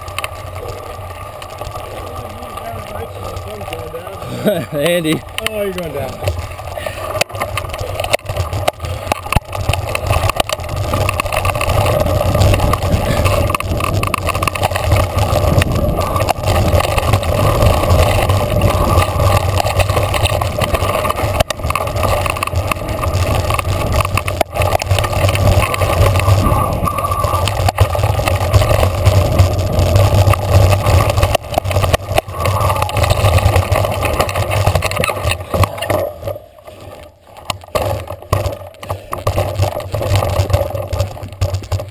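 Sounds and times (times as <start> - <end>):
bike clicks and rattles: 0.0 - 41.9
wind and rolling rumble: 0.0 - 41.9.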